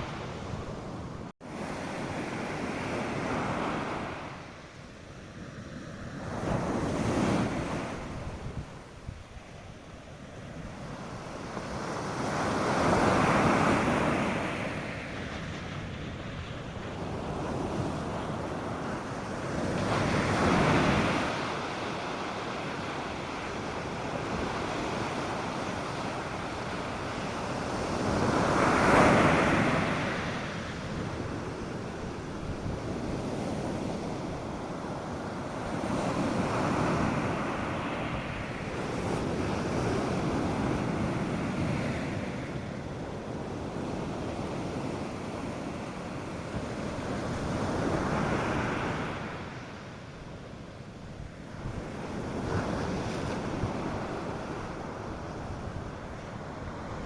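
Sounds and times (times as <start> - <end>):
waves washing on a beach: 0.0 - 57.0.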